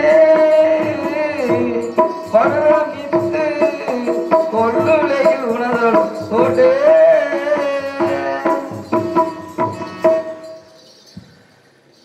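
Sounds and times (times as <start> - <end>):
tabla strokes: 0.0 - 11.4.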